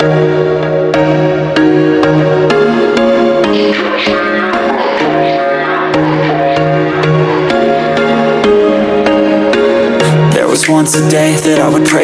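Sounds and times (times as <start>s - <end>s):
electronic chords with a beat: 0.0s - 12.0s.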